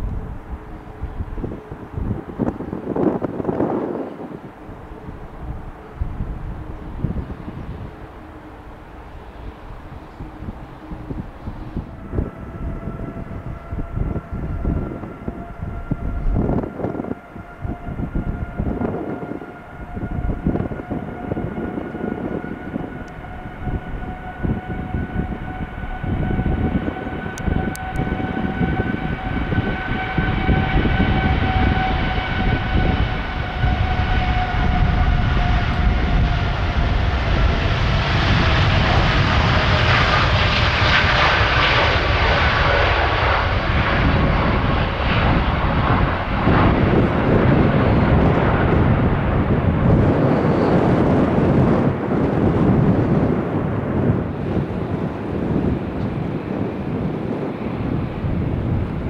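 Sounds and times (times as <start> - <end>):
jet engines whining: 0.0 - 59.0
low rumble: 0.0 - 59.0.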